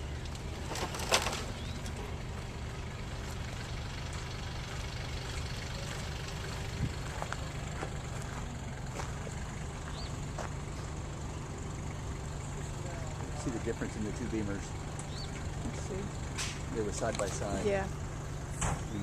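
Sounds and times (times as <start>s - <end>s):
vehicle engine idling hum: 0.0s - 19.0s.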